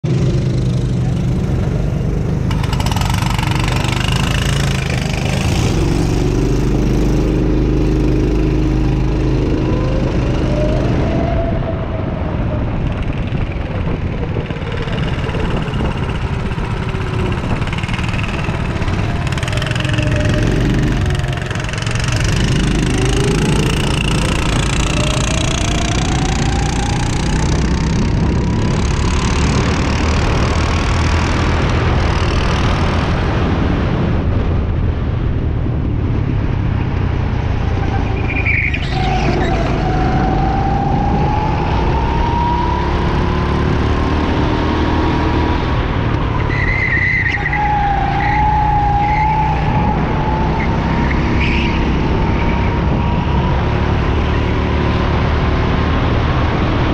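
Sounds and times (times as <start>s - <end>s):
go-kart engine running hard: 0.0s - 56.9s
second go-kart engine: 0.0s - 56.9s.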